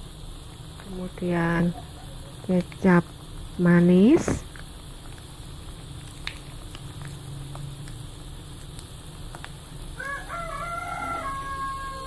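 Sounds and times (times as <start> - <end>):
sauce bubbling in a pan: 0.0 - 12.0.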